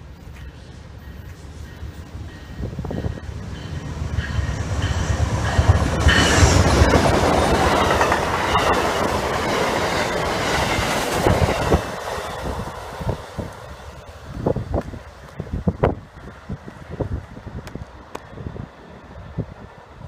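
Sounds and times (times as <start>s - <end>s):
train engine and wheel rumble: 0.0s - 20.0s
clickety-clack over rail joints: 0.3s - 18.5s.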